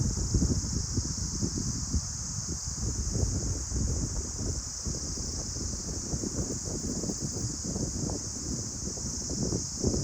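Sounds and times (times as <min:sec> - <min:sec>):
wind blowing through trees: 0:00.0 - 0:10.0
wind buffeting microphone: 0:00.0 - 0:10.0.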